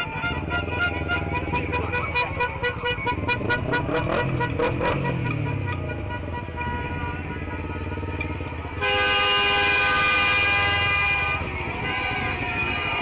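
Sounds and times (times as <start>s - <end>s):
long horn blast: 0.0s - 7.8s, 8.4s - 13.0s
car horns honking: 0.0s - 13.0s.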